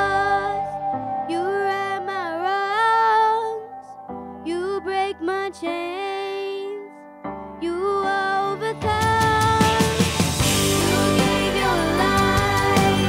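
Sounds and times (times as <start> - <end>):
girl singing into a microphone: 0.0 - 7.0, 7.6 - 10.0, 10.8 - 13.0
soft instrumental accompaniment: 0.0 - 13.0.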